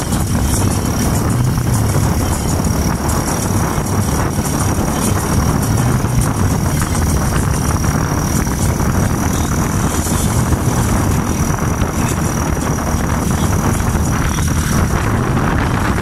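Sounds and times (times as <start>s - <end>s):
high-pitched whine: 0.0s - 16.0s
vehicle engine and road noise: 0.0s - 16.0s.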